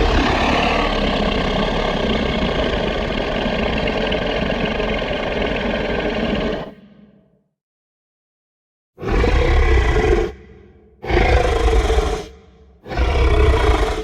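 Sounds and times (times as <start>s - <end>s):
low rumbling dinosaur growl: 0.0s - 7.3s, 9.0s - 14.0s.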